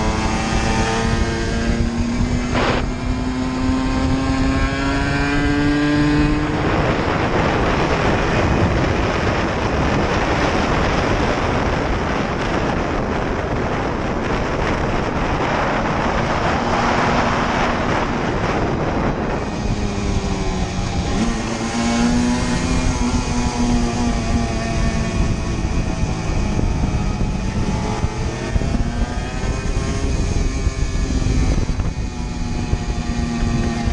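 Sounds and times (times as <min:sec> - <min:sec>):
dense rushing noise: 0:00.0 - 0:04.3, 0:06.3 - 0:33.9
two-stroke engine revving: 0:00.0 - 0:11.7, 0:14.2 - 0:33.9.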